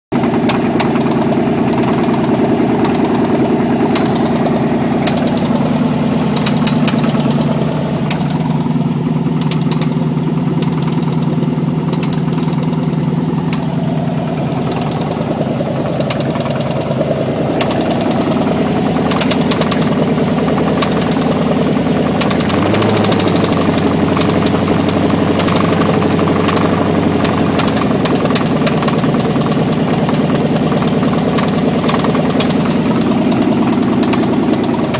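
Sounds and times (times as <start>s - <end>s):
engine knocking: 0.0s - 34.9s
engine running on open manifolds: 0.0s - 34.9s.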